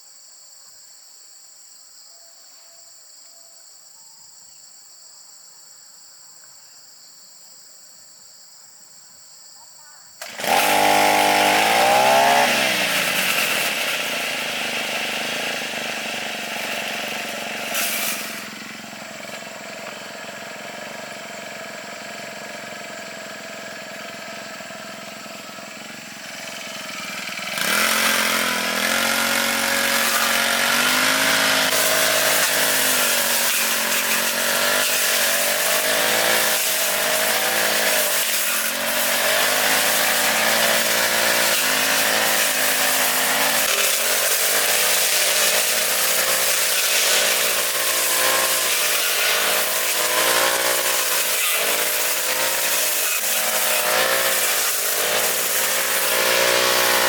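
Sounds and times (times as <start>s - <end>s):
lawn mower engine revving: 10.2s - 57.0s.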